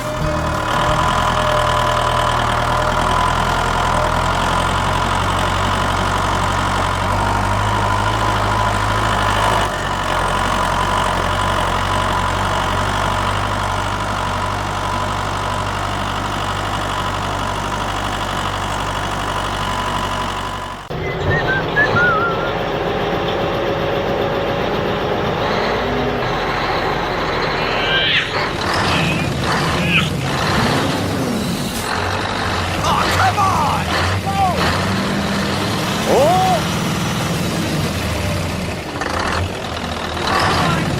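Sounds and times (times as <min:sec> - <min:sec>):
engine low drone: 0:00.0 - 0:40.9.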